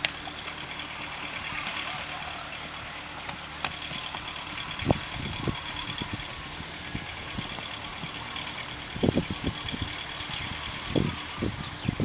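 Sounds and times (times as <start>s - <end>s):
horse hooves thudding on dirt: 0.0s - 11.2s.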